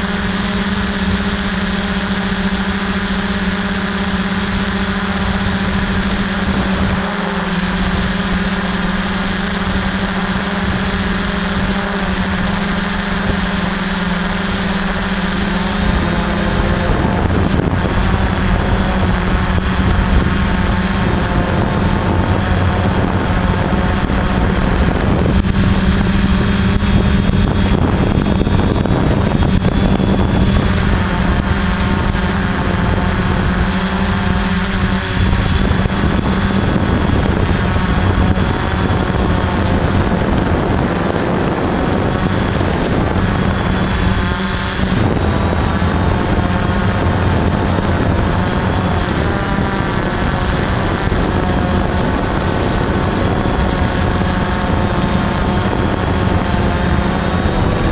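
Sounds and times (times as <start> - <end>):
drone motors buzzing: 0.0 - 57.9.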